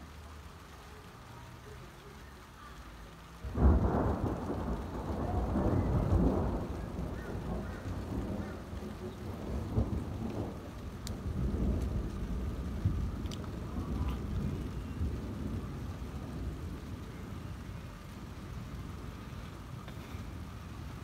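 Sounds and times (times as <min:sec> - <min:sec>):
rain hissing: 0:00.0 - 0:21.0
thunder rumbling: 0:03.4 - 0:21.0.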